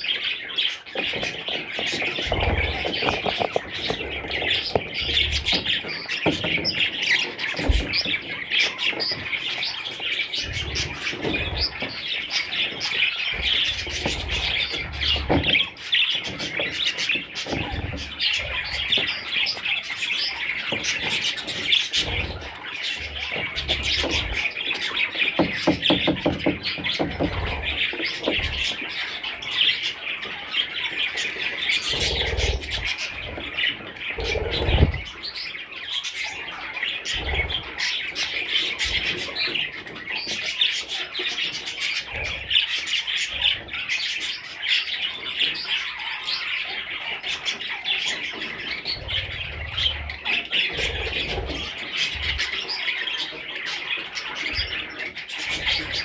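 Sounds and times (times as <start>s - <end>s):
budgerigars chattering and chirping: 0.0s - 56.0s.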